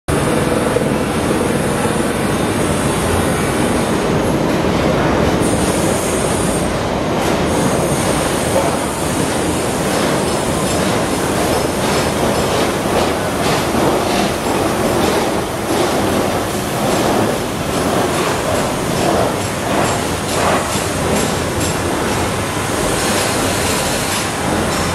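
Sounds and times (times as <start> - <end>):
train rolling slowly: 0.2 - 24.9.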